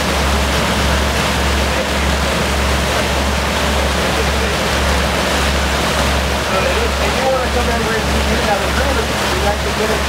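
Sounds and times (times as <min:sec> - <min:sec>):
boat engine drone: 0:00.0 - 0:10.0
boat wake churning water: 0:00.0 - 0:10.0.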